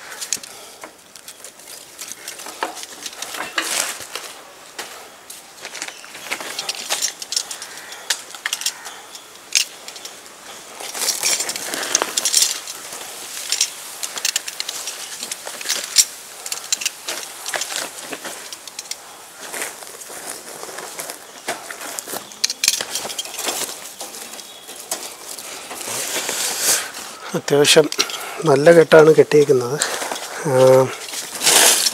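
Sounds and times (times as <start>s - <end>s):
rope rustling and scraping: 0.0s - 31.9s.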